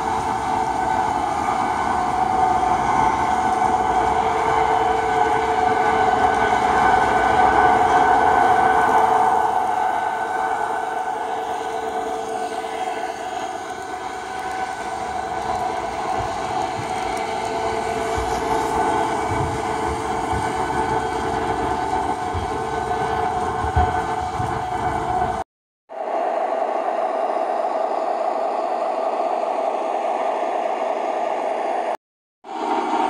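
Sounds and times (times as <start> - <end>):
model train running on track: 0.0 - 25.4, 26.0 - 33.0.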